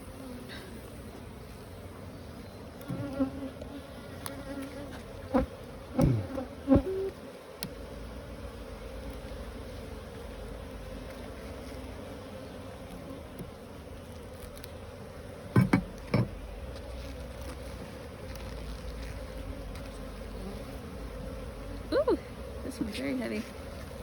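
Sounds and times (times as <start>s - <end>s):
bee colony humming: 0.0s - 24.0s
single bees buzzing close by: 0.0s - 24.0s.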